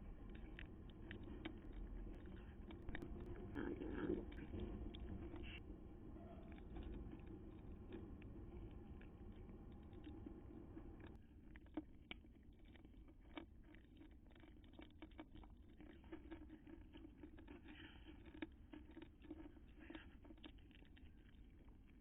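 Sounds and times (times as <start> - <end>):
faint clicks and ticks: 0.0 - 22.0
low steady hum: 0.0 - 22.0.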